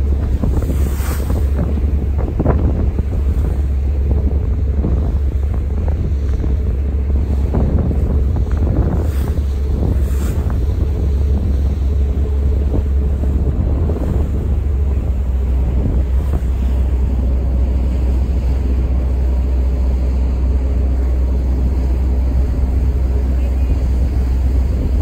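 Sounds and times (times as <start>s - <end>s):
ferry low rumble: 0.0s - 25.0s
rushing water: 0.0s - 25.0s
wind buffeting microphone: 0.0s - 25.0s.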